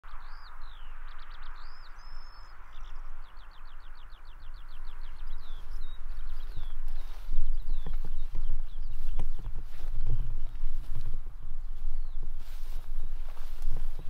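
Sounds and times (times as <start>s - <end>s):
small birds singing: 0.0s - 14.0s
steady low rumble: 0.0s - 14.0s.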